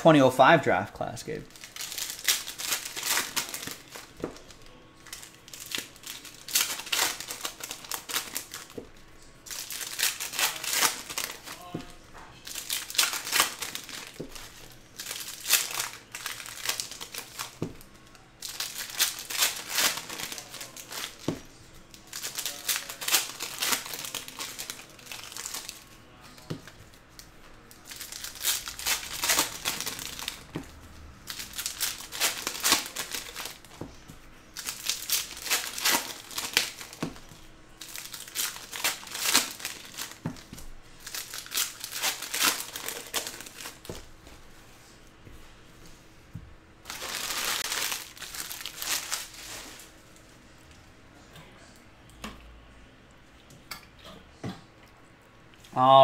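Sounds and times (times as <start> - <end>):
foil wrappers crinkling and tearing: 1.3 - 44.1, 46.8 - 50.2.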